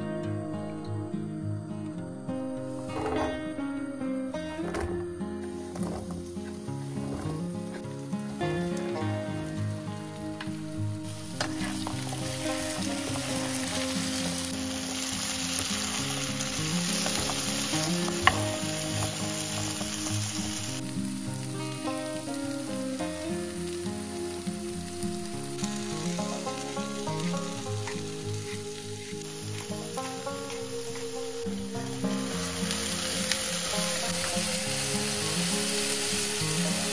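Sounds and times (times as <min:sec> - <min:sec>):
quiet background music: 0:00.0 - 0:36.9
food sizzling in oil: 0:05.4 - 0:36.9.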